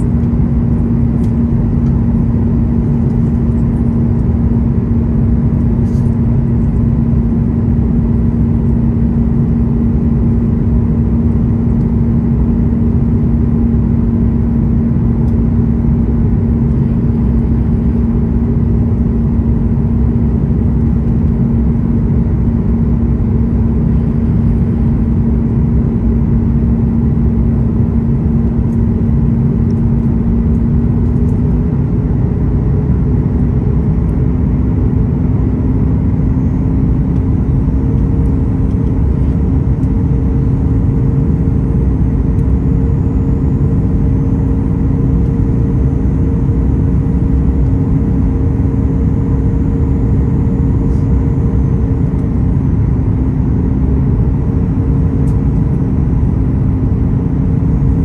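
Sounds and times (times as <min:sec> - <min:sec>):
loud low rumble of engine and airflow: 0:00.0 - 0:58.0
steady engine hum: 0:00.0 - 0:58.0.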